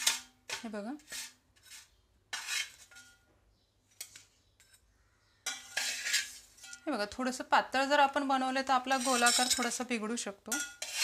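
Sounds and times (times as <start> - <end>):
metal spatula scraping a pot: 0.0 - 3.3, 3.9 - 7.1, 8.4 - 11.0.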